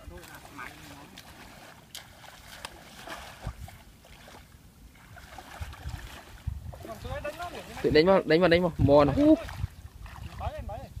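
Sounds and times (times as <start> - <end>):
wading through muddy water: 0.0 - 11.0.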